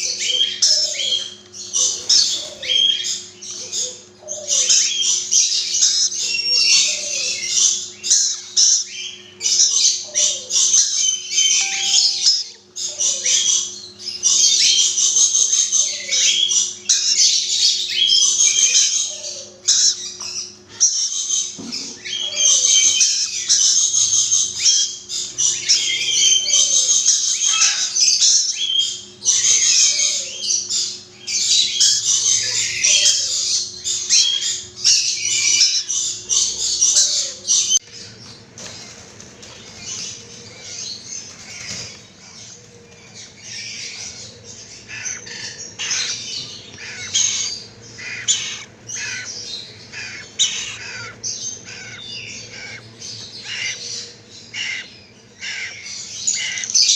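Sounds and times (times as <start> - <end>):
lorikeets squawking and screeching: 0.0 - 56.9.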